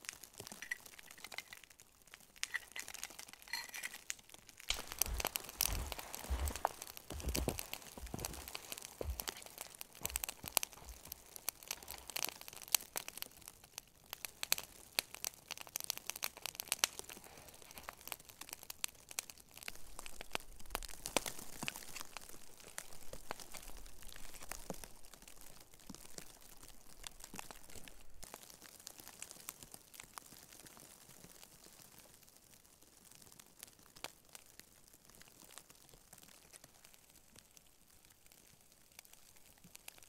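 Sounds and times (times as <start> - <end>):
branches and brush crackling: 0.0 - 40.0.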